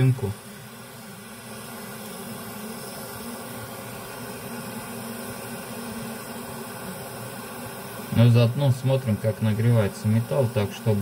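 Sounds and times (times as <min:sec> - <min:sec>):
gas torch hissing: 0:00.0 - 0:11.0.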